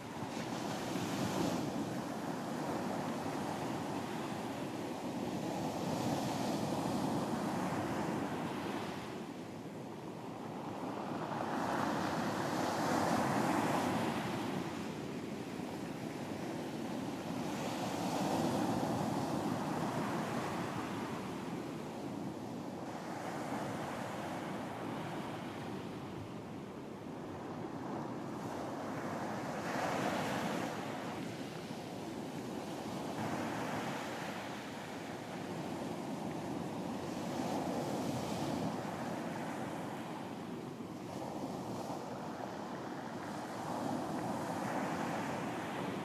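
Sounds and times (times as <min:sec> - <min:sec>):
ocean waves breaking on beach: 0:00.0 - 0:46.0.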